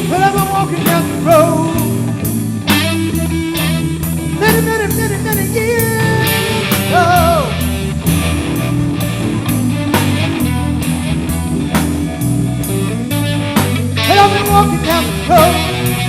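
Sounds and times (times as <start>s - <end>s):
bass guitar: 0.0s - 16.0s
electric guitar lead notes: 0.0s - 16.0s
steady drum beat: 0.0s - 16.0s.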